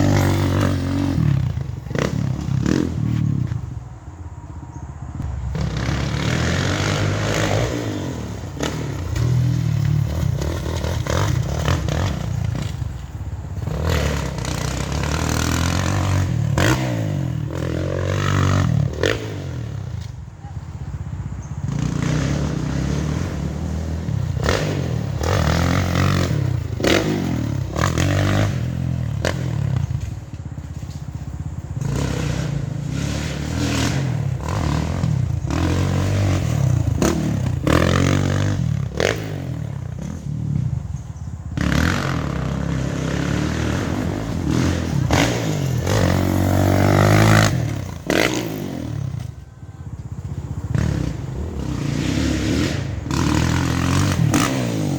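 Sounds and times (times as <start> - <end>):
dirt bike engine revving: 0.0 - 3.8, 5.2 - 54.9.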